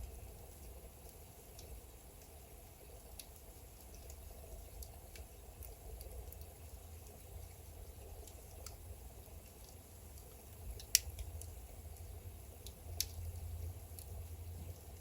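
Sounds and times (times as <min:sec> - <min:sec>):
fire crackling: 0:00.0 - 0:15.0
fire flames rumbling: 0:00.0 - 0:15.0.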